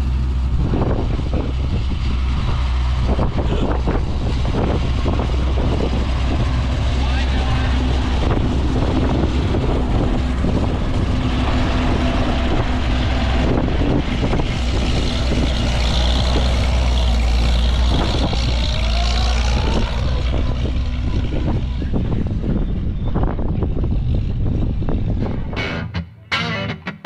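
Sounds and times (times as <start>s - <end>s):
engine droning: 0.0s - 27.0s
whine rising in pitch: 4.1s - 27.0s.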